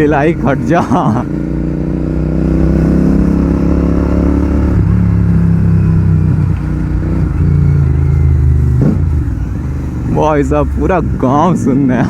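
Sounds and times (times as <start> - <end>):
loud motorcycle engine: 0.0 - 12.0.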